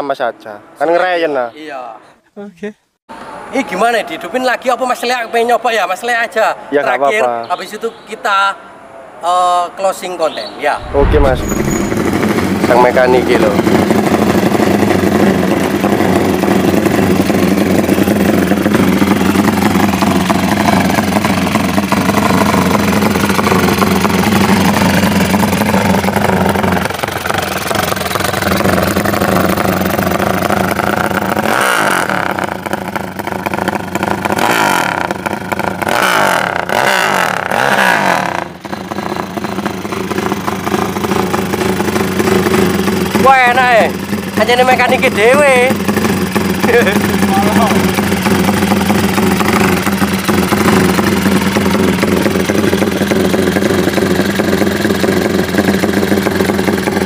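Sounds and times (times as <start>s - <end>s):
motorcycle engine running and revving: 10.8s - 57.0s.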